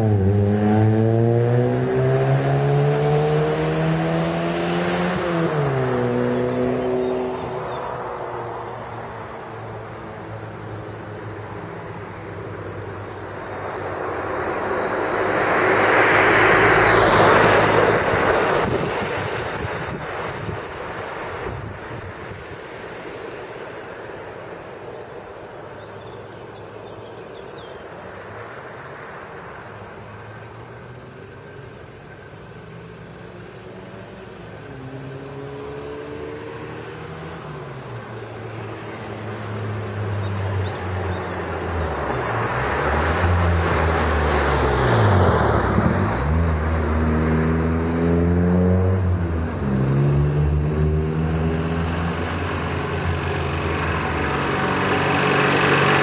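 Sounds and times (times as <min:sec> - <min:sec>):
car passing by: 0:00.0 - 0:56.0.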